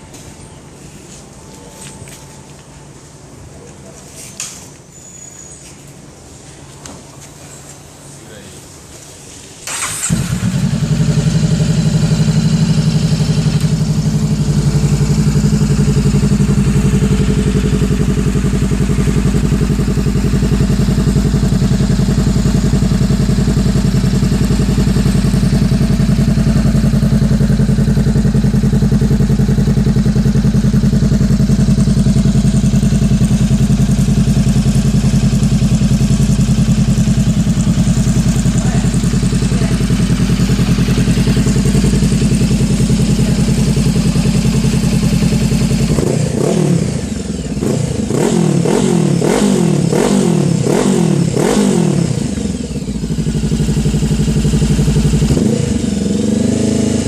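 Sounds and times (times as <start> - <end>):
motorcycle engine idling: 9.7 - 57.0.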